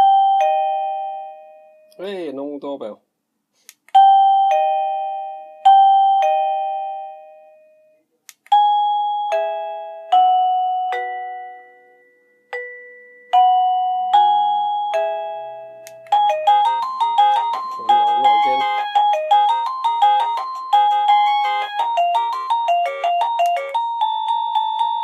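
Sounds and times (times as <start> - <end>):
doorbell chime tones: 0.0 - 2.0, 4.0 - 25.0.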